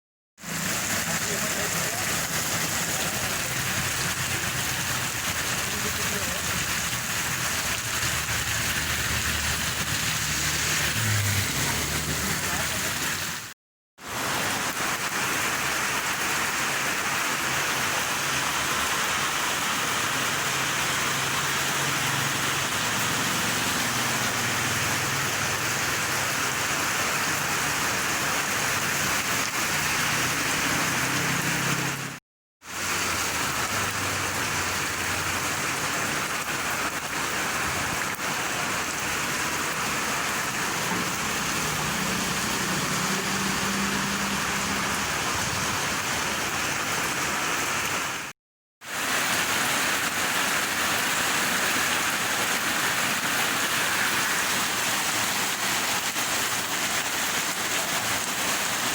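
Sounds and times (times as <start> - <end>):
steady rain falling: 0.4 - 48.3, 48.9 - 58.9.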